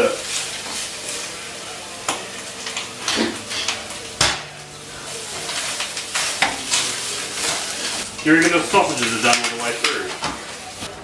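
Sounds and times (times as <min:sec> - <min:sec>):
sausages sizzling in a pan: 0:00.0 - 0:11.0.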